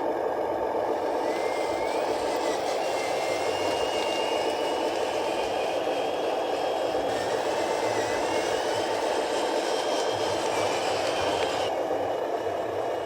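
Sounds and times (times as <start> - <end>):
small electric motor whirring: 0.8 - 13.0.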